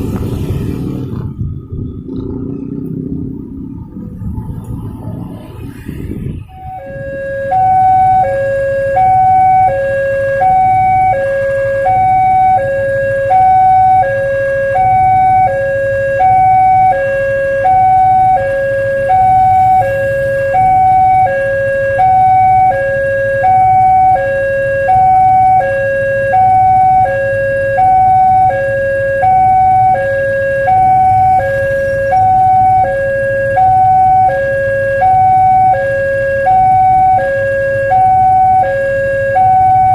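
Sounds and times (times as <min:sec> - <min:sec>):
low steady rumble: 0:00.0 - 0:39.9
two-tone warning siren: 0:00.0 - 0:39.9.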